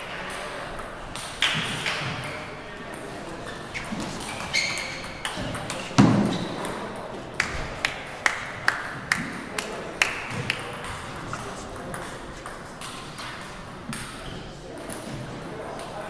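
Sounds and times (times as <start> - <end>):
table tennis ball bouncing: 0.8 - 15.9.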